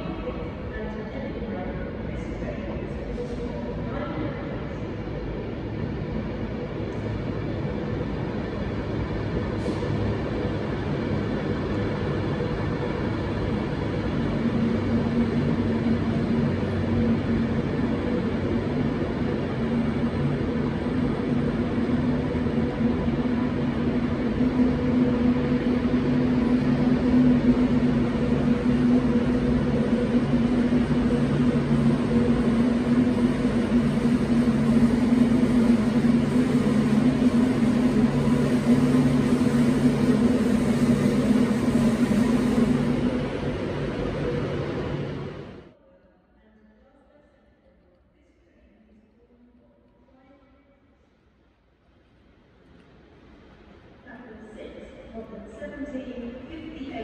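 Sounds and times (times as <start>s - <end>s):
train engine droning: 0.0s - 45.8s.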